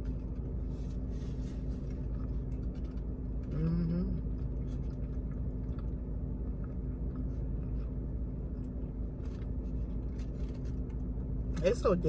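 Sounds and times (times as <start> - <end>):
person chewing food: 0.0 - 3.6, 4.2 - 11.1
steady low hum: 0.0 - 12.0.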